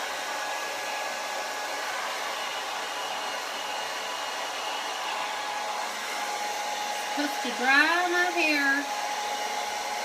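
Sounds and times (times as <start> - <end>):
hair dryer blowing air: 0.0 - 10.0.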